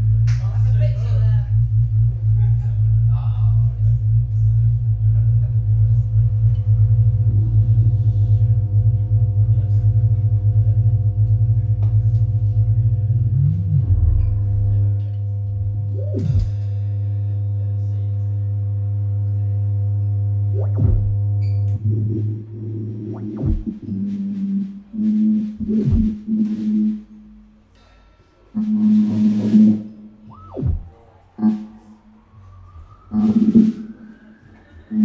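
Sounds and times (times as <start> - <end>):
electric guitar and bass drone: 0.0 - 27.1, 28.6 - 35.0.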